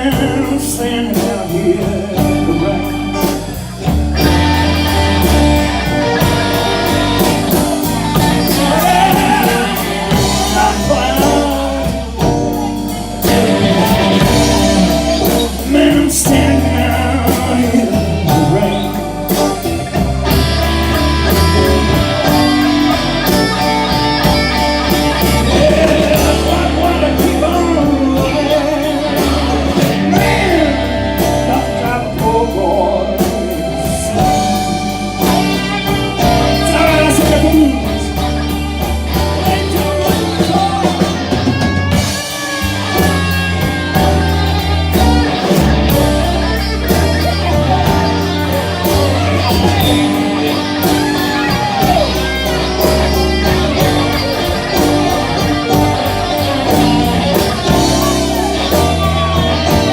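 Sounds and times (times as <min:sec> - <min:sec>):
blues band playing: 0:00.0 - 0:59.9
electric guitar: 0:00.0 - 0:59.9
person singing: 0:00.0 - 0:59.9.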